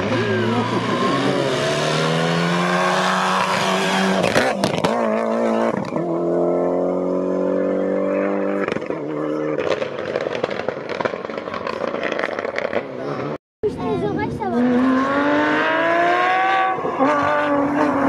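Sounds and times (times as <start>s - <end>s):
rally car engine revving: 0.0s - 13.4s, 14.3s - 18.0s.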